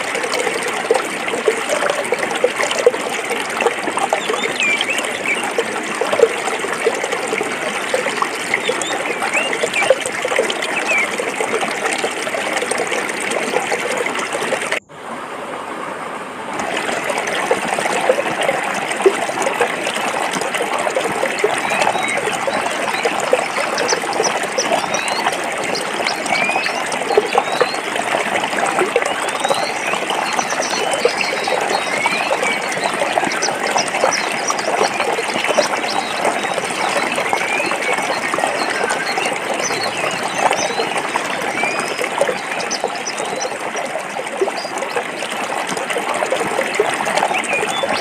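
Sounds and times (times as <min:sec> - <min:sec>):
stream flowing over rocks: 0:00.0 - 0:48.0.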